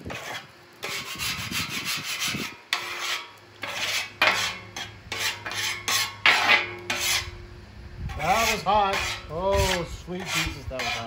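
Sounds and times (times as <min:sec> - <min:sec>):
scraper rasping across steel griddle: 0:00.0 - 0:07.4, 0:08.1 - 0:11.0.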